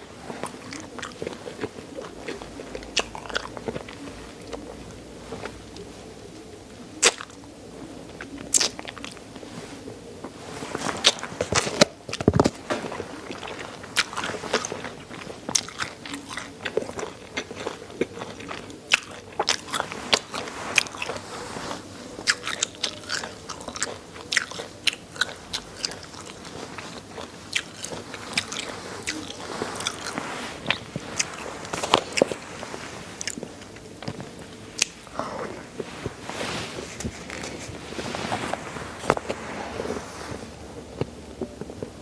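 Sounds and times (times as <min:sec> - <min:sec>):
wet mouth sounds: 0:00.0 - 0:07.4, 0:08.1 - 0:42.0
bones crunching while chewing: 0:00.0 - 0:07.5, 0:08.1 - 0:42.0.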